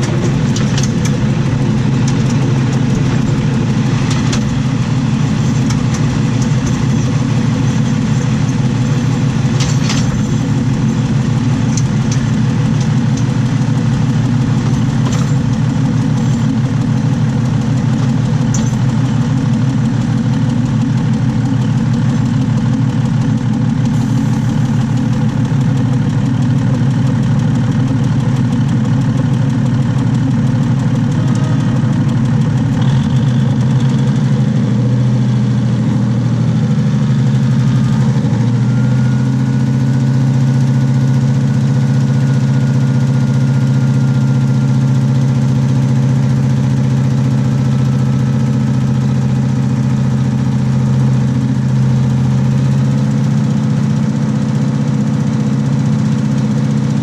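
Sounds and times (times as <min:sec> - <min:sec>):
railcar diesel engine running: 0:00.0 - 0:57.0.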